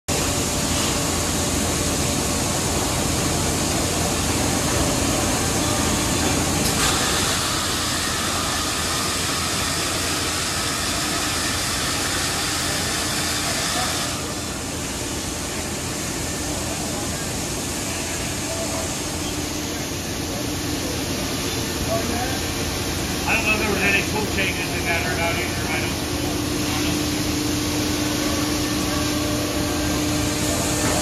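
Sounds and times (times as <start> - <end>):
machine hum and whir: 0.1 - 31.0.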